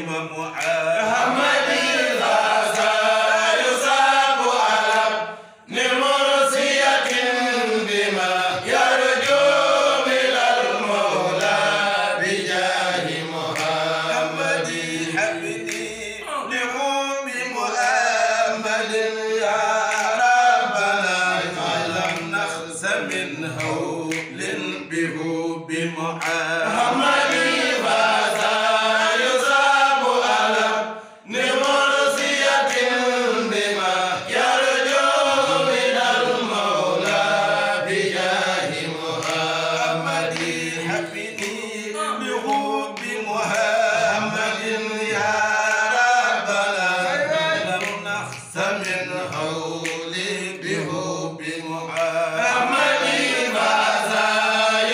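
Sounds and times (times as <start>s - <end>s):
men chanting devotional poetry: 0.0s - 54.9s.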